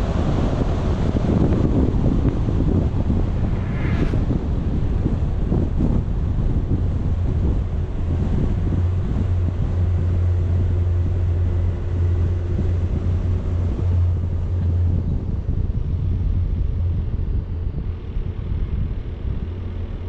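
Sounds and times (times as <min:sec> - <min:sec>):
low engine drone: 0:00.0 - 0:20.0
wind buffeting microphone: 0:00.0 - 0:20.0.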